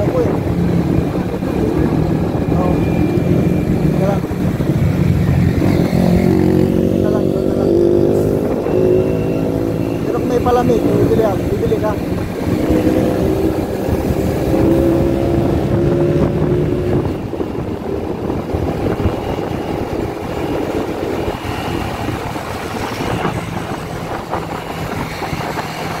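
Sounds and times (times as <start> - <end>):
motorcycle engine hum: 0.0 - 26.0
road noise: 0.0 - 26.0
wind rushing over microphone: 0.0 - 26.0.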